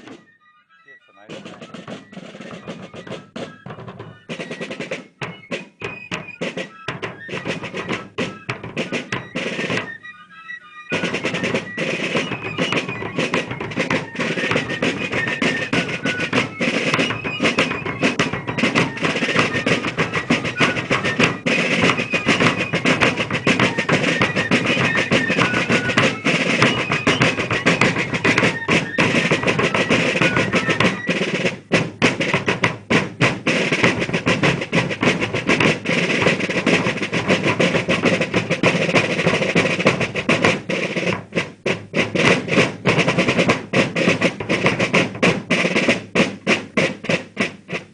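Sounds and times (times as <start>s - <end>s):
rolling snare drums: 0.0s - 0.4s, 1.0s - 47.9s
shrill fife melody: 0.0s - 41.0s.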